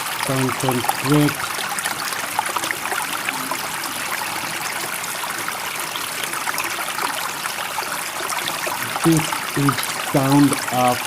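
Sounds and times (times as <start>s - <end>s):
running water with splashes: 0.0s - 11.0s.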